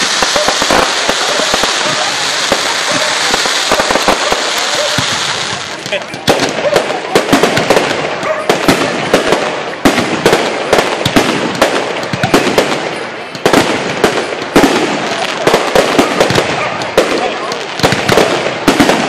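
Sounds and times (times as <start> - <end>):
continuous crackling hiss: 0.0 - 19.0
fireworks bangs and bursts: 0.0 - 19.0.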